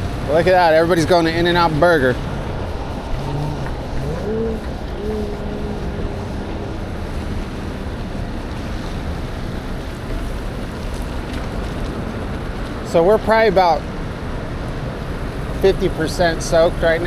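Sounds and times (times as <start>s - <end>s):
tyres hissing on wet road: 0.0s - 17.0s
wind rushing over microphone: 0.0s - 17.0s.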